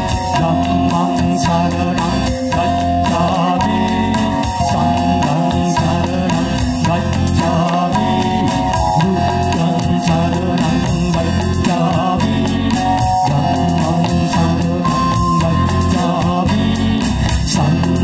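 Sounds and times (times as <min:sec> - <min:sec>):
drum kit beat: 0:00.0 - 0:18.0
guitar: 0:00.0 - 0:18.0
person singing: 0:00.0 - 0:18.0.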